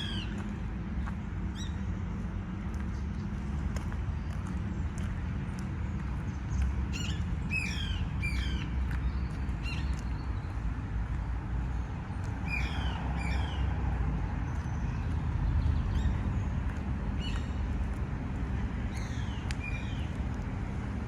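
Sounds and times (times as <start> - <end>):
low city rumble: 0.0 - 21.0.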